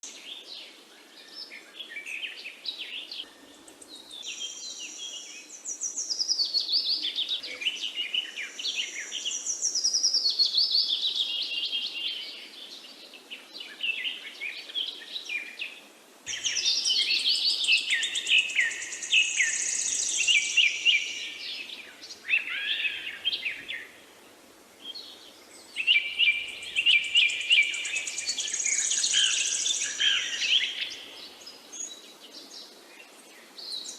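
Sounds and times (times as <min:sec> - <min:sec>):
faint background hiss: 0:00.0 - 0:33.9
small birds chirping and trilling: 0:00.0 - 0:33.9.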